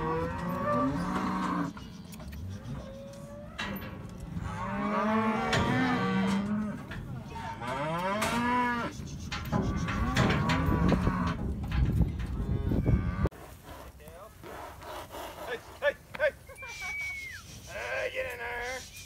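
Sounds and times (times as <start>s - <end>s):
calves bawling: 0.0s - 19.0s.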